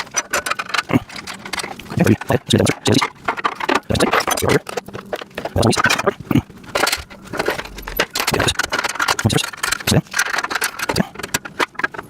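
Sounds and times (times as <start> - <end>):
knocks and clicks: 0.0 - 12.0
metal parts clinking and rattling: 0.0 - 12.0.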